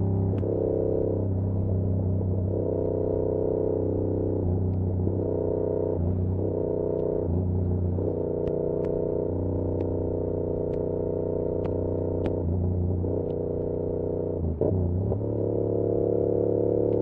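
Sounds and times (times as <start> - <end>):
muffled motorcycle engine running: 0.0 - 17.0.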